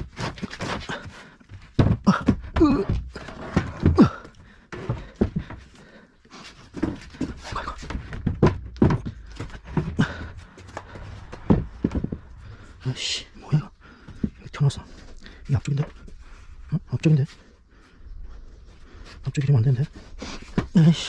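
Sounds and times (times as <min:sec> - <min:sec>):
man grunting and panting: 0:00.6 - 0:18.0.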